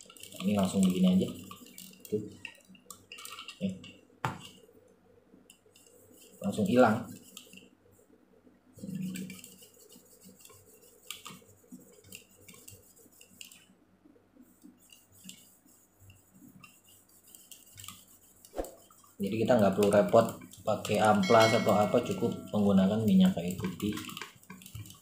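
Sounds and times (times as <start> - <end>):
faint clicks and rubbing: 0.0 - 8.0, 8.8 - 13.7, 14.4 - 25.0.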